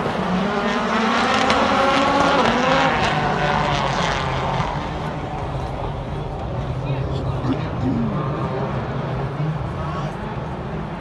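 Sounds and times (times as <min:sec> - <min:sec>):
race car engines at high revs: 0:00.0 - 0:11.0.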